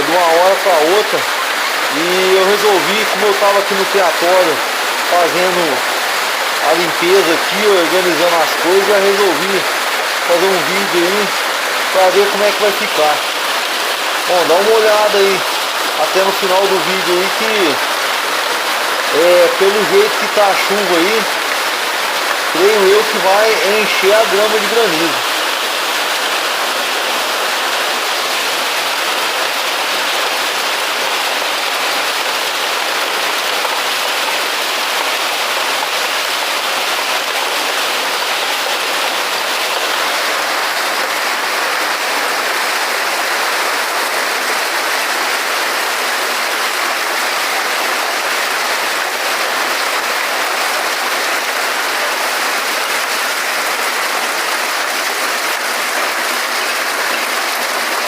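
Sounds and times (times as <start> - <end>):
heavy rain and hail: 0.0 - 58.0.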